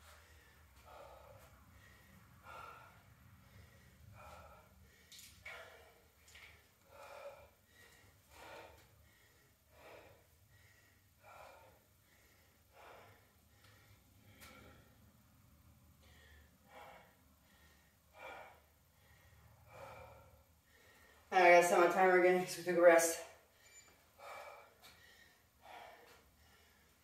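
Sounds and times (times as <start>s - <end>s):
person breathing hard: 0.0s - 21.3s, 23.4s - 27.0s.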